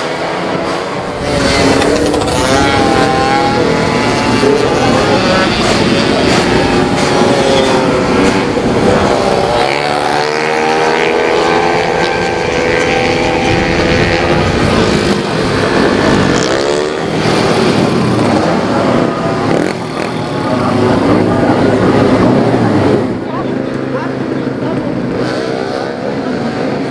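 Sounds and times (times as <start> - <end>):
racing scooter engines passing: 0.0 - 26.9.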